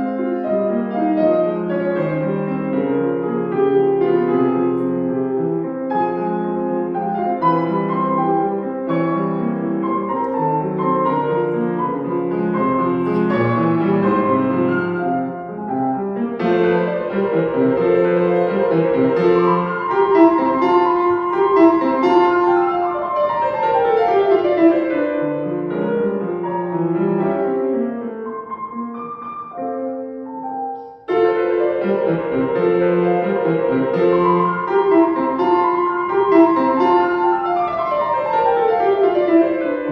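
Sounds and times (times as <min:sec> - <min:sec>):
solo classical piano: 0:00.0 - 0:39.9.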